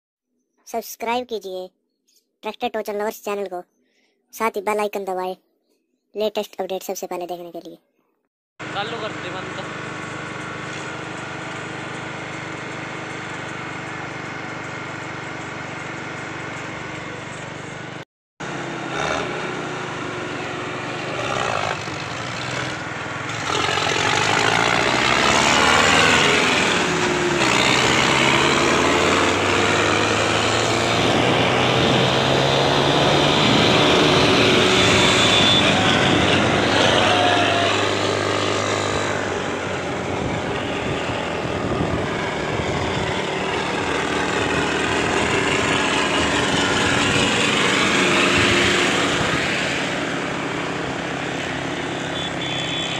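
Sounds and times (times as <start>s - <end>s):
diesel tractor engines revving: 8.6s - 52.9s.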